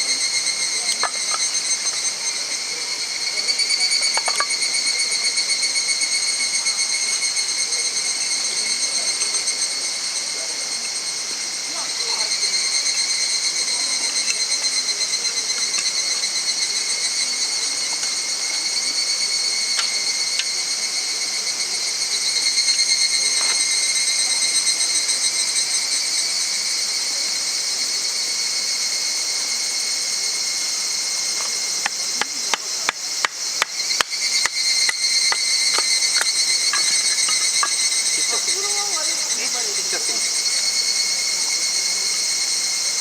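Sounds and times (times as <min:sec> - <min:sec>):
insects shrilling: 0:00.0 - 0:43.0.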